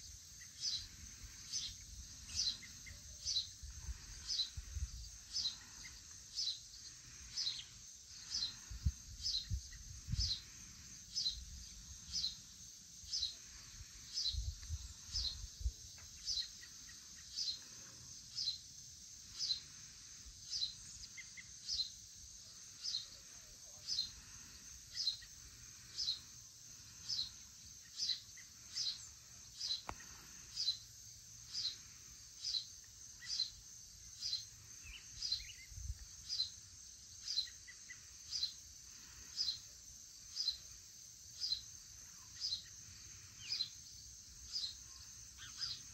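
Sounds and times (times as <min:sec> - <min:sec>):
crickets and insects chorus: 0:00.0 - 0:45.9.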